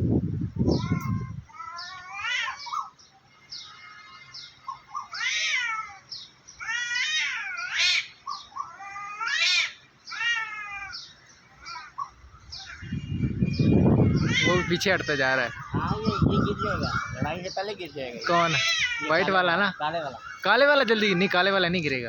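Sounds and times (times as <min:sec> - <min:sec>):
cats yowling: 0:00.8 - 0:03.0, 0:04.7 - 0:13.1, 0:13.9 - 0:17.4, 0:18.0 - 0:21.7.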